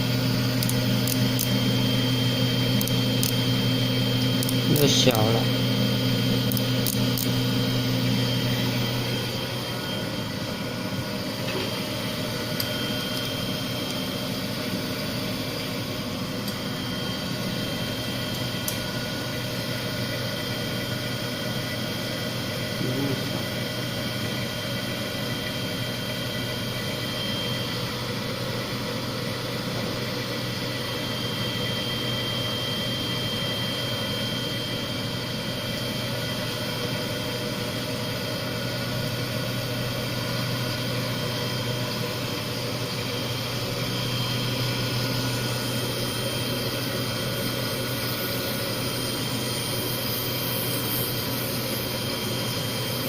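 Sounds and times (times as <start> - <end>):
grinder motor hum with high whine: 0.0 - 53.0.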